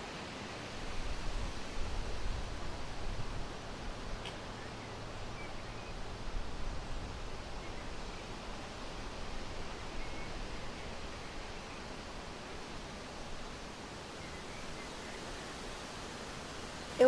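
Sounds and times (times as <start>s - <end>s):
wind rustling tree leaves: 0.0s - 17.0s.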